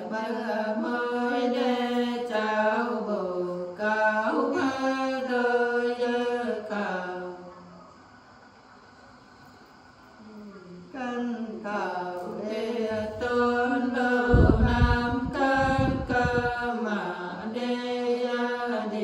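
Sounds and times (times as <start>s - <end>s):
women singing unaccompanied: 0.0s - 7.8s, 10.2s - 19.0s.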